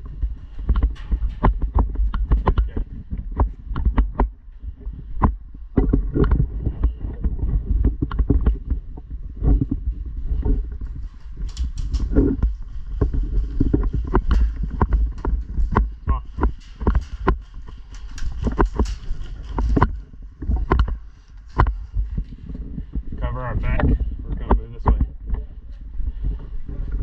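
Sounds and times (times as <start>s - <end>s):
wind and handling rumble: 0.0s - 27.0s.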